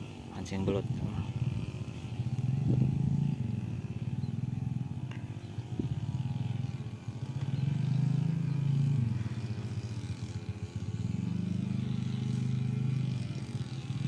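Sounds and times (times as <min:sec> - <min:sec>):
brush cutter engine running: 0:00.0 - 0:14.0.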